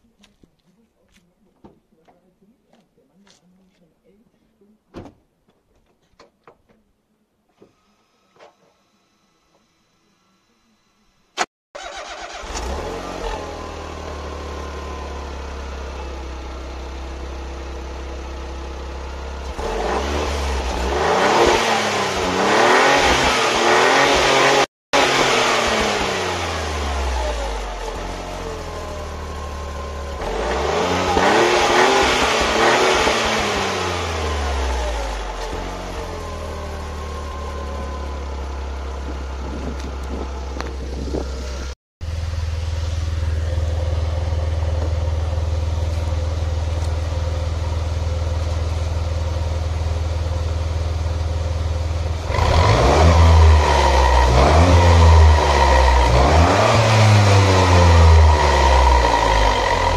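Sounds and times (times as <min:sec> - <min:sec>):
car engine idling and revving: 0:11.8 - 0:59.9.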